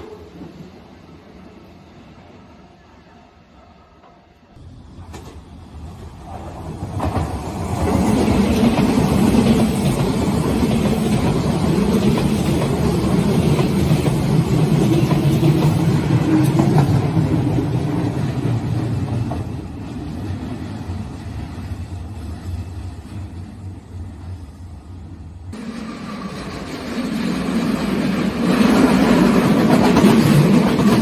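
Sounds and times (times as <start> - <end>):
train wheels rumbling on rail: 3.9 - 31.0.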